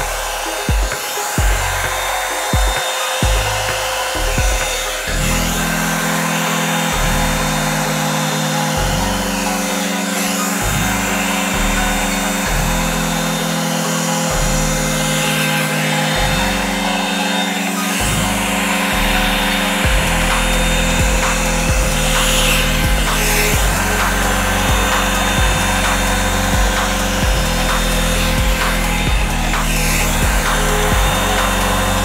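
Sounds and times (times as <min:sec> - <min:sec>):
background music: 0:00.0 - 0:32.0
hair dryer blowing air: 0:00.0 - 0:32.0.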